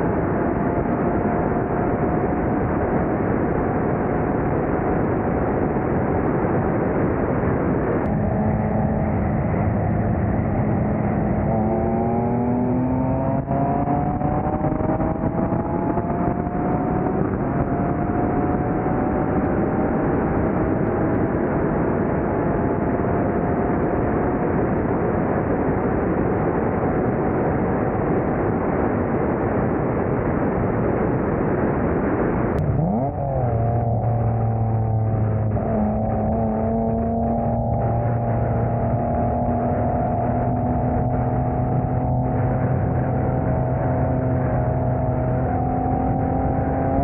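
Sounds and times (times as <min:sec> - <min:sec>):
car engine at full throttle: 0:00.0 - 0:47.0
wind rush on microphone: 0:00.0 - 0:47.0.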